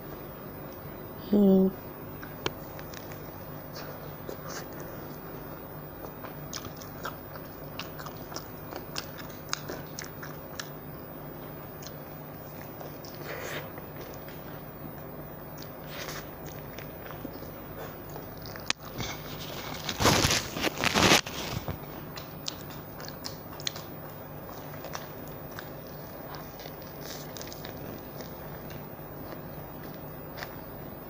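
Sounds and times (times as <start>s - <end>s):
faint steady hum: 0.0s - 31.0s
person chewing a burger: 2.2s - 31.0s.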